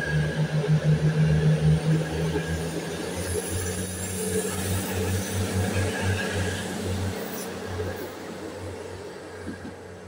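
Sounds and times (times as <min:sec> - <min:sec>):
electric trains rumbling and humming: 0:00.0 - 0:10.0.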